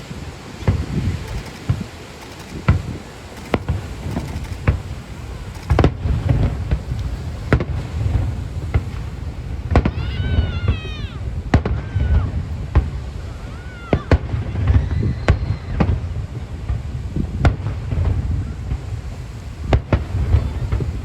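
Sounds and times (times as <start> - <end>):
fireworks bangs: 0.0 - 21.0
low rumble of booms: 2.6 - 21.0.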